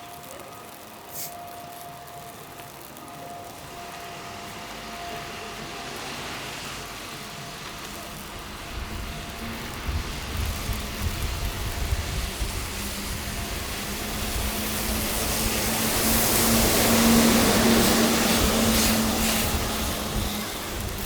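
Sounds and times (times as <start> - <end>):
car tyre hiss on snow: 1.1 - 1.5, 4.4 - 21.0.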